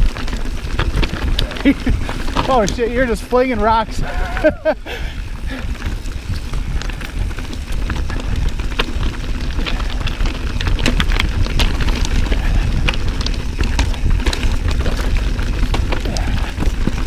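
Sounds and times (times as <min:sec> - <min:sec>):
bike rattling: 0:00.0 - 0:17.0
tyres crunching over stones: 0:00.0 - 0:17.0.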